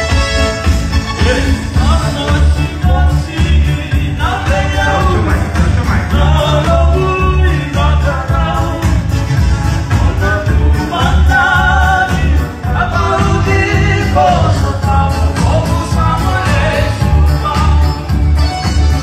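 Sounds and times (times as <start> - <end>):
person singing: 0.0 - 9.2, 9.8 - 18.4
keyboard: 0.0 - 19.0
pulsing bass: 0.0 - 19.0.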